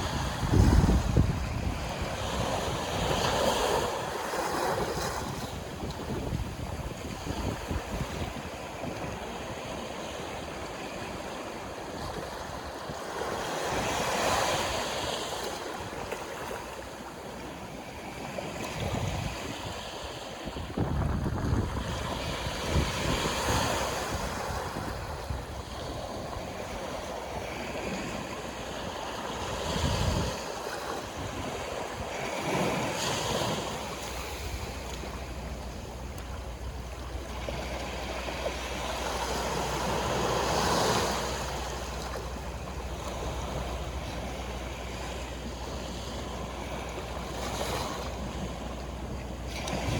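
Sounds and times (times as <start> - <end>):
sea waves breaking: 0.0 - 49.9
wind buffeting microphone: 0.0 - 49.9.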